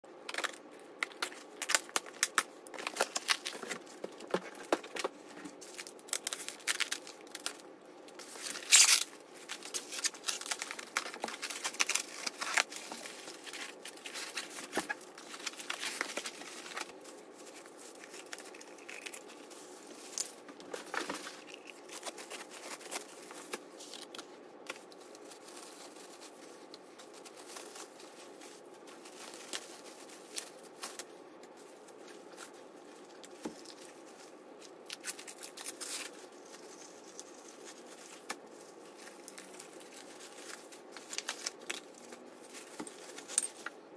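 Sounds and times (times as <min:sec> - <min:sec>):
plastic wrap crinkling: 0:00.3 - 0:43.8.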